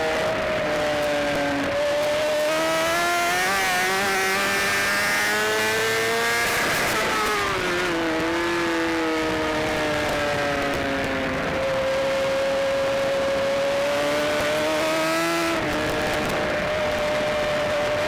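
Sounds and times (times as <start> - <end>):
motorcycle engine accelerating: 0.0 - 18.0
wind noise: 0.0 - 18.0.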